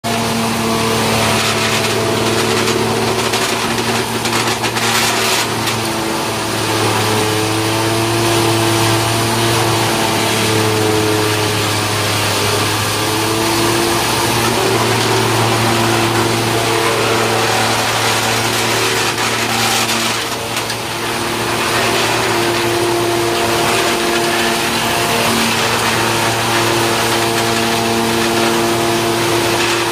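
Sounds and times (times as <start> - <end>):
sawdust machine running: 0.0 - 29.9.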